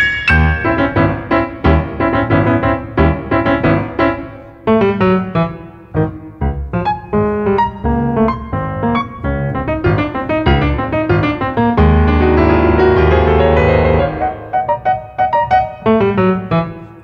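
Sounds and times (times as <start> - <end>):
solo piano classical piece: 0.0 - 17.0.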